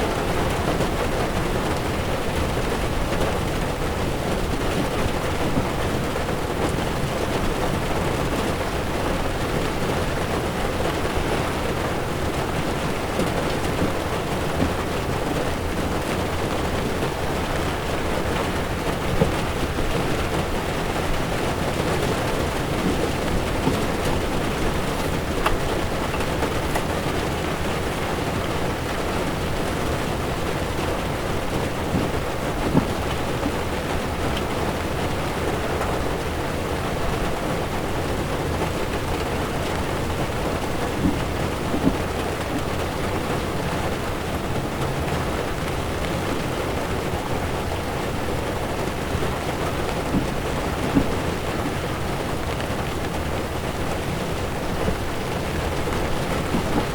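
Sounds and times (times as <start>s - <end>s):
rain drumming on car: 0.0s - 56.9s.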